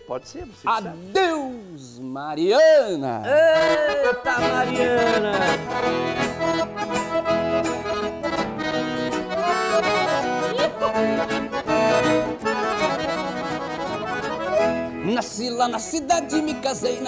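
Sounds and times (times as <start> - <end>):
accordion melody: 0.0 - 1.7, 3.2 - 17.0
rhythmic backing: 3.2 - 17.0.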